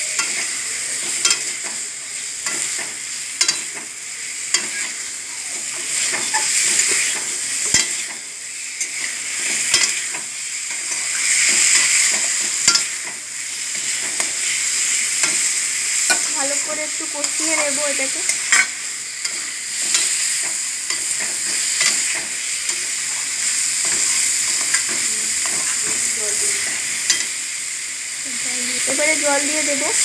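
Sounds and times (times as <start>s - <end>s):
eggs and potatoes sizzling in oil: 0.0s - 30.0s.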